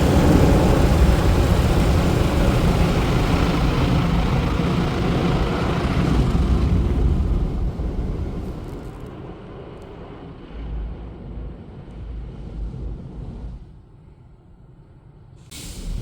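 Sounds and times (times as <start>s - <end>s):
car wash machinery rushing: 0.0s - 14.2s, 15.5s - 16.0s
low rumble: 0.0s - 16.0s.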